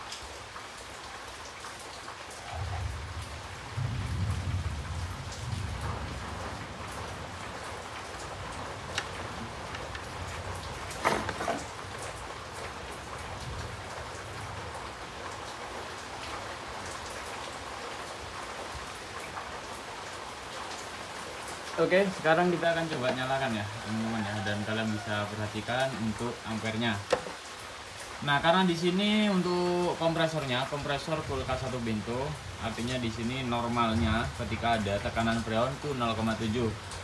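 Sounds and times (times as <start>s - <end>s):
steady hiss like rain: 0.0s - 37.0s.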